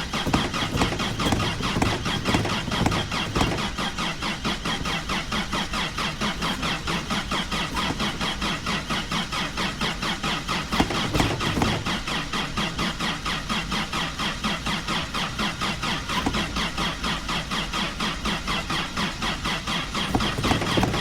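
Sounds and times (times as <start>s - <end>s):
four-cylinder engine running: 0.0s - 21.0s.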